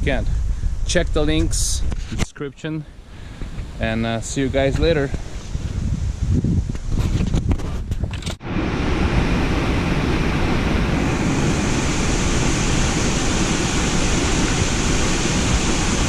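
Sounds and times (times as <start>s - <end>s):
steady rushing hiss: 0.0s - 7.0s, 8.4s - 16.0s.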